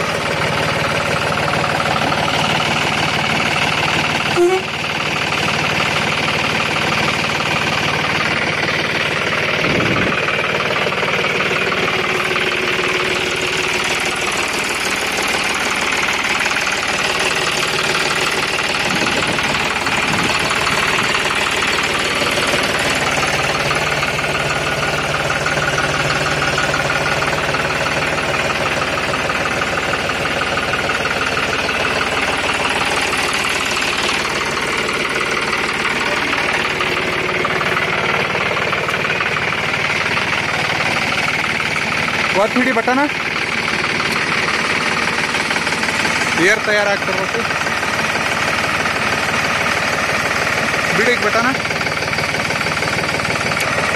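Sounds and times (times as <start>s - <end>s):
tractor diesel engine idling: 0.0s - 53.9s.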